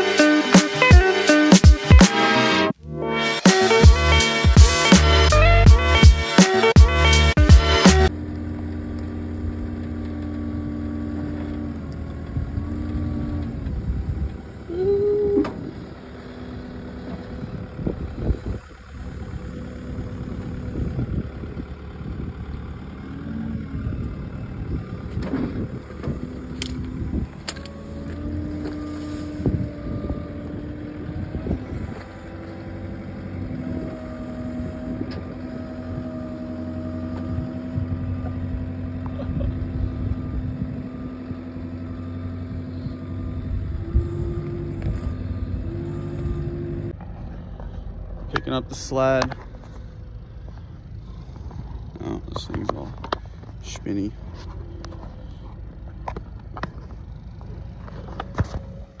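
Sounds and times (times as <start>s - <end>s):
truck engine and road drone: 0.0s - 59.0s.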